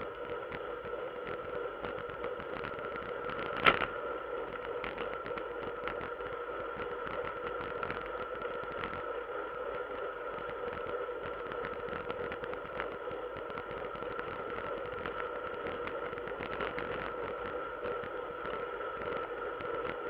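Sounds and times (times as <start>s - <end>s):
steady hums: 0.0s - 20.0s.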